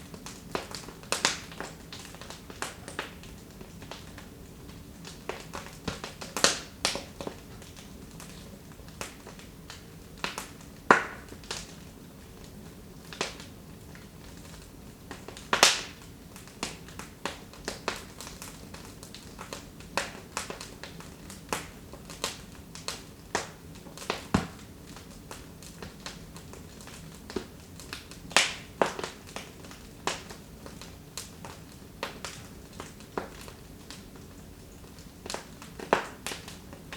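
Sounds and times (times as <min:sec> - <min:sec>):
low hiss of burning fire: 0:00.0 - 0:36.9
wood fire crackling: 0:00.0 - 0:36.9.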